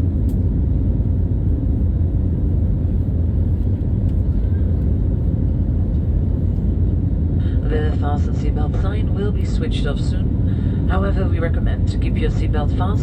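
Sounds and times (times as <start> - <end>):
airplane engines and airflow rumble: 0.0 - 13.0.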